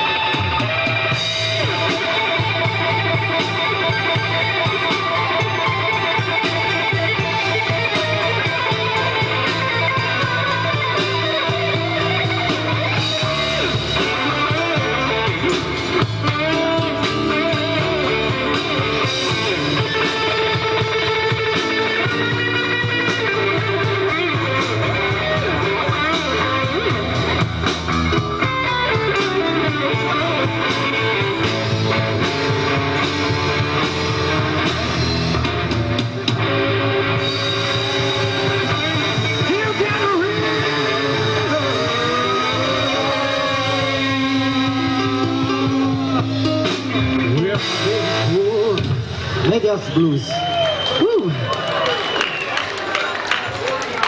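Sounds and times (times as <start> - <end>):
bass notes: 0.0 - 51.5
drums: 0.0 - 54.0
electric guitar: 0.0 - 54.0
live band playing: 0.0 - 54.0.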